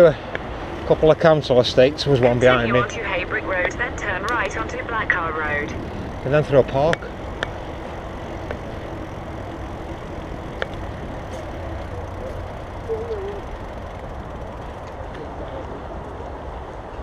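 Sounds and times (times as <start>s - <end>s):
mountain bike rolling: 0.0s - 17.0s.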